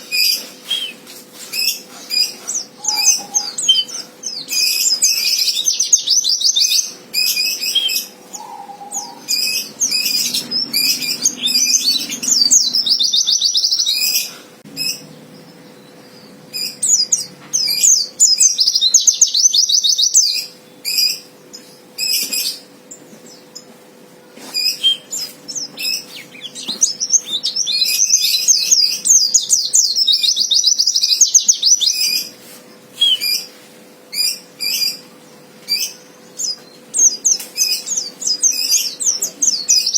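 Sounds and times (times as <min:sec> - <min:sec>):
bird twittering trills: 0:00.0 - 0:23.8, 0:24.5 - 0:32.4, 0:33.0 - 0:39.9.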